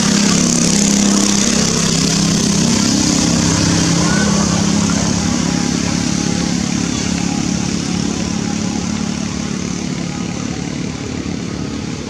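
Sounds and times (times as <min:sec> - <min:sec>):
motorbike engine humming: 0:00.0 - 0:12.0.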